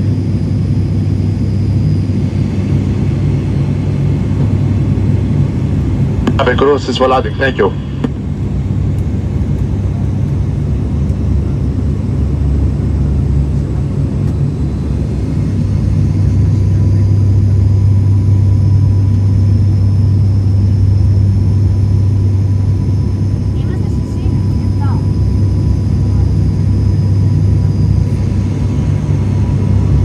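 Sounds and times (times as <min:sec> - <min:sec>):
propeller plane cabin drone: 0:00.0 - 0:30.0.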